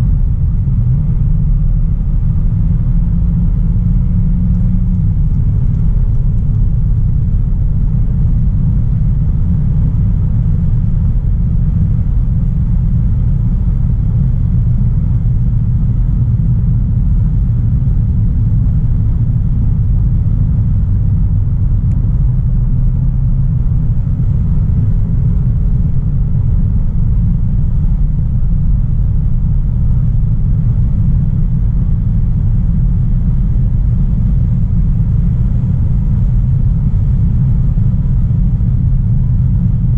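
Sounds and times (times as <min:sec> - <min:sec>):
car engine rumble: 0:00.0 - 0:39.9
road noise: 0:00.0 - 0:39.9.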